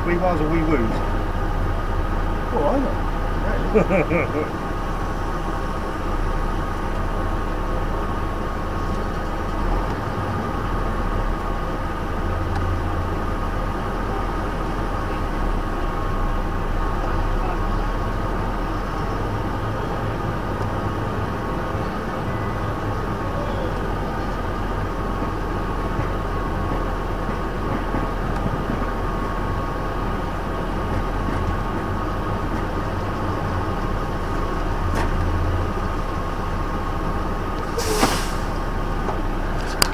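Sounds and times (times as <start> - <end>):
truck diesel engine from inside cab: 0.0 - 39.9.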